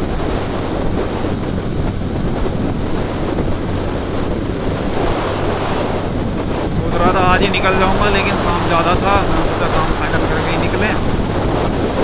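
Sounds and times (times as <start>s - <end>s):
low hum: 0.0s - 12.0s
wind rushing over microphone: 0.0s - 12.0s.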